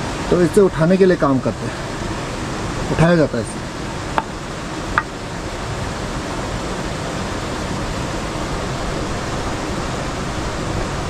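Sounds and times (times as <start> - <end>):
rushing water in mill channel: 0.0 - 11.0.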